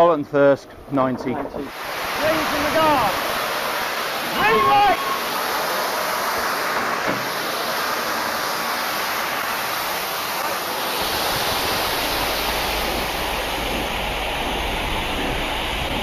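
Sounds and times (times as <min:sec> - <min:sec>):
steam hissing from locomotive: 0:01.6 - 0:16.0.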